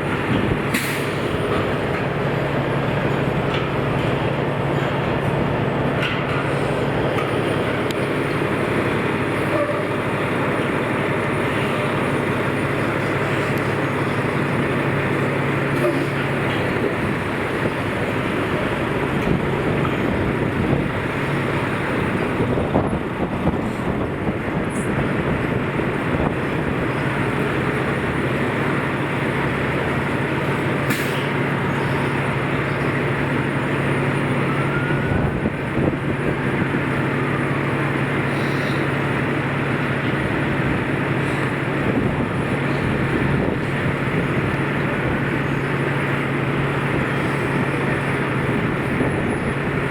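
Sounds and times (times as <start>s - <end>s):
street traffic: 0.0s - 49.9s.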